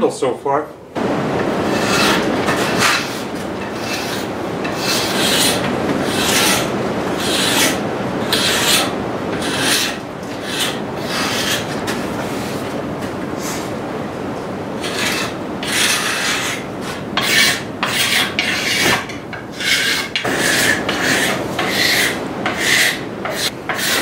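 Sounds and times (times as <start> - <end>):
tool scraping wooden handle: 1.6 - 12.7, 14.8 - 24.0.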